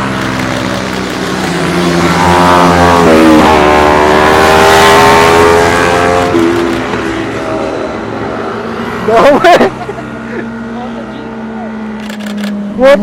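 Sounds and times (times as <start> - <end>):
motorcycle accelerating past: 0.0 - 12.8.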